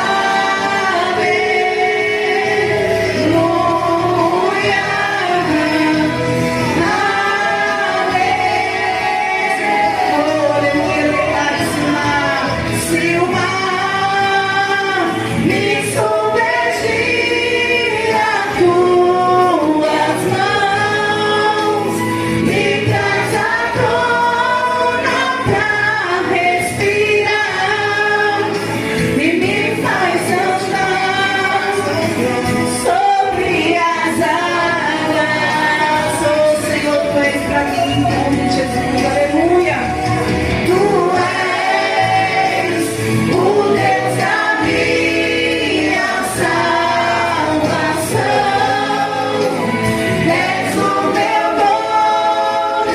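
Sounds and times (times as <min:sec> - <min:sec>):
musical accompaniment: 0:00.0 - 0:52.9
voices singing together: 0:00.0 - 0:52.9.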